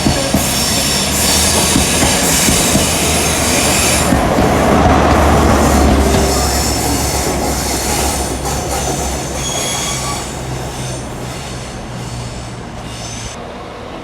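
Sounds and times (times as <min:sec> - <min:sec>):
wheels squealing on rails: 0:00.0 - 0:13.7
train rumbling: 0:00.0 - 0:14.0.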